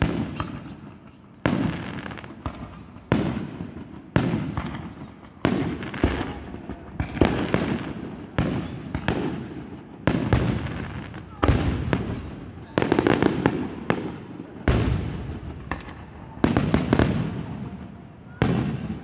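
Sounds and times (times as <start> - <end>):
fireworks bursting with rumble: 0.0 - 19.0.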